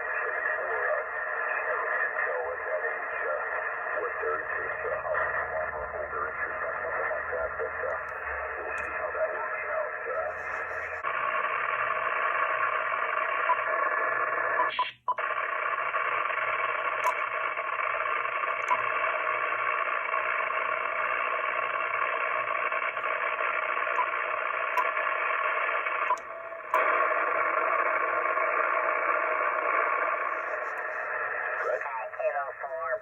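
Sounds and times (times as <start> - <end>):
radio static hiss: 0.0 - 33.0.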